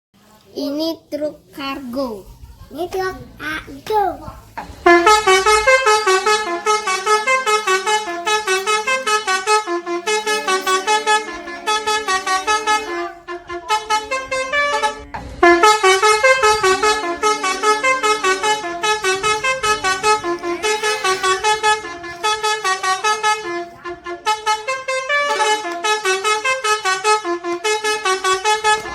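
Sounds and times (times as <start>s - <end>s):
multi-tone bus horn melody: 2.2s - 28.9s.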